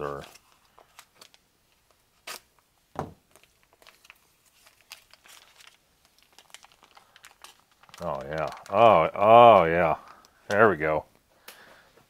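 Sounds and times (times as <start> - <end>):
foil pouch crinkling: 0.0 - 2.6, 3.3 - 10.8.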